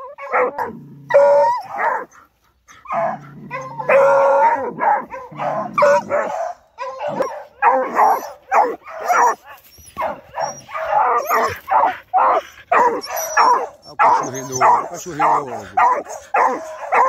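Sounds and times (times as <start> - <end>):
hounds baying: 0.0 - 17.0.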